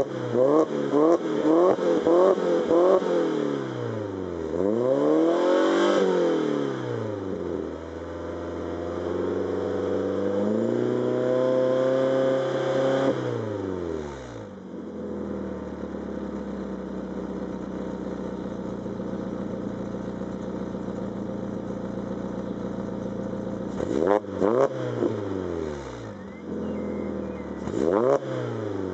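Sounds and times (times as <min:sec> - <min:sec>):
car engine revving and idling: 0:00.0 - 0:28.9.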